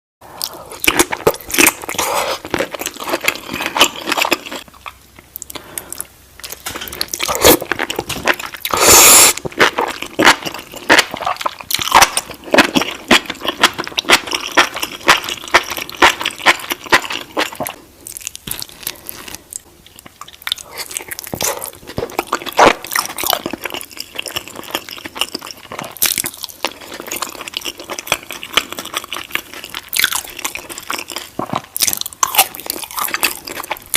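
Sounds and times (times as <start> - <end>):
chewing crunchy shrimp: 0.4 - 33.9.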